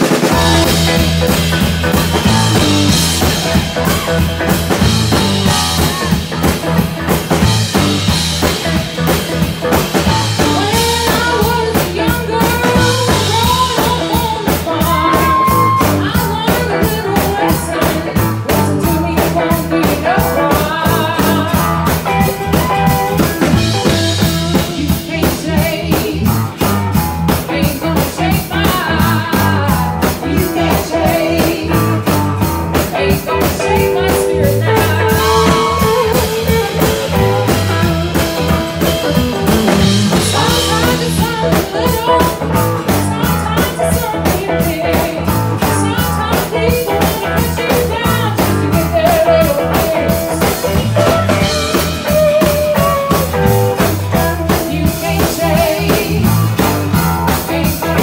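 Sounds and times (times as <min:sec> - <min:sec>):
drum kit beat: 0:00.0 - 0:58.0
electric guitar: 0:00.0 - 0:58.0
woman singing: 0:00.1 - 0:06.4, 0:09.9 - 0:58.0.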